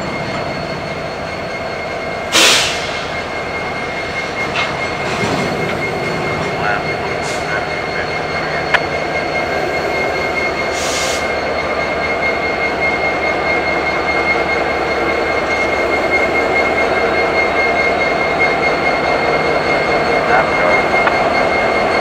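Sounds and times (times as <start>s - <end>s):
high-pitched squeal: 0.0s - 22.0s
train cars rumbling on rails: 0.0s - 22.0s.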